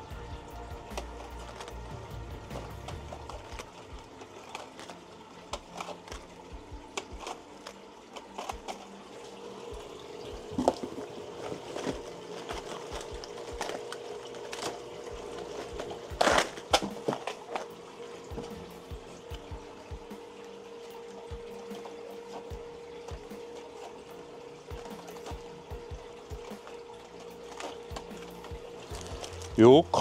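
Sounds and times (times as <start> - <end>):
plastic packaging rustling: 0.0 - 19.6, 20.2 - 30.0.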